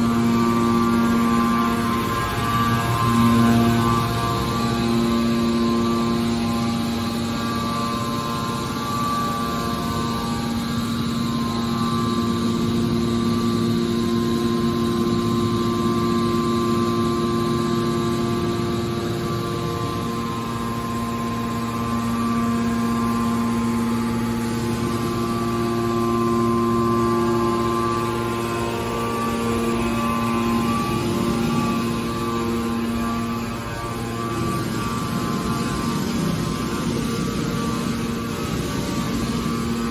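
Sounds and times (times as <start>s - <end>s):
constant rushing noise: 0.0s - 39.9s
hydraulic machinery humming: 0.0s - 39.9s.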